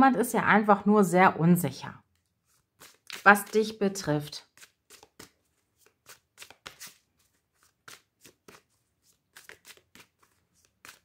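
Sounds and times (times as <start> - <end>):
cards being shuffled: 2.1 - 11.0.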